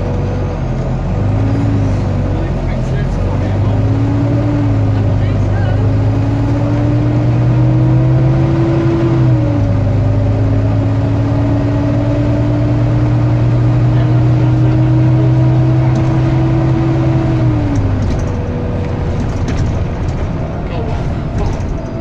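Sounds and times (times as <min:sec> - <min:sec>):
bus engine whine: 0:00.0 - 0:22.0.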